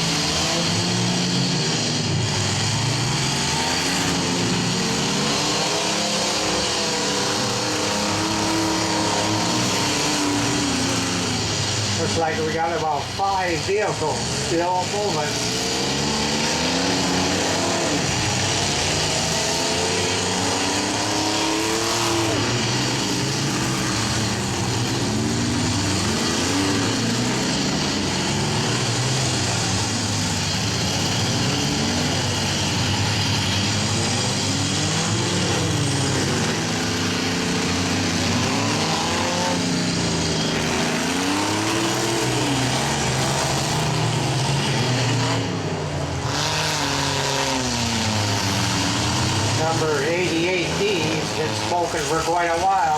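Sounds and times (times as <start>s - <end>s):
engines revving: 0.0s - 52.9s
vehicles ramming each other: 0.0s - 52.9s.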